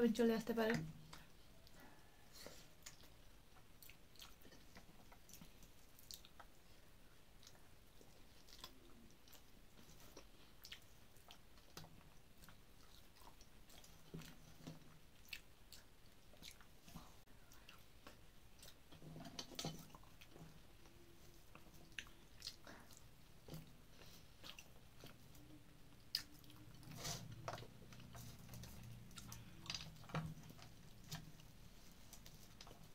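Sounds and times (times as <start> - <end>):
soft mouth clicks and smacks: 1.1 - 6.8, 7.4 - 32.9
person chewing food: 1.1 - 32.9.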